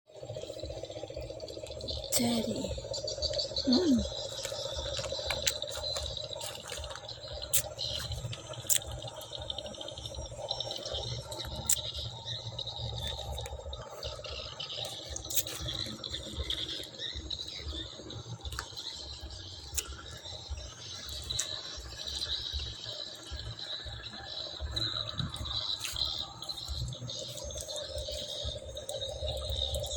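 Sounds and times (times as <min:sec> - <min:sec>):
raindrops tapping: 0:00.3 - 0:29.9.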